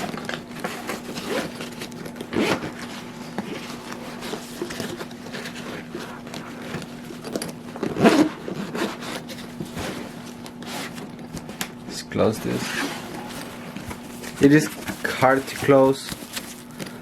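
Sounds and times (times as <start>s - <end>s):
backpack rustling and scraping: 0.0s - 11.2s, 12.5s - 16.7s.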